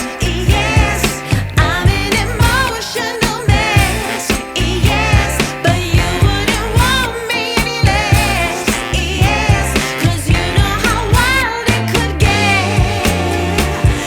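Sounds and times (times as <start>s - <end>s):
pop music with singing: 0.0s - 14.0s.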